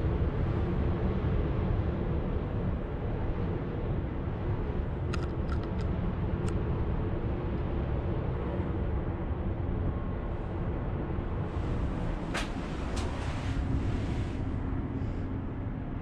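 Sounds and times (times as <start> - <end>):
cable car rumble and hum: 0.0 - 16.0.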